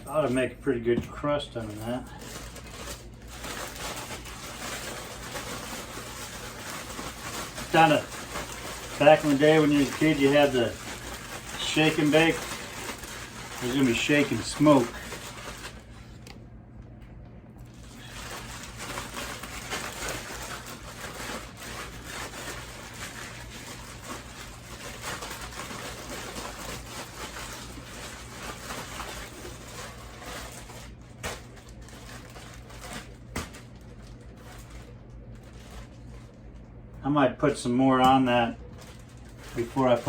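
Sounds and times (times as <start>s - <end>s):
chicken shaken in plastic bag: 1.8s - 16.2s, 17.8s - 36.5s, 38.5s - 40.0s.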